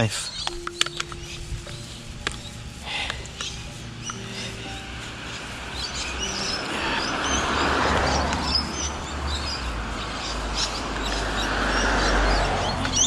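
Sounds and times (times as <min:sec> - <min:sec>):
small birds chirping: 0:00.0 - 0:13.0
vehicles passing: 0:00.0 - 0:13.0.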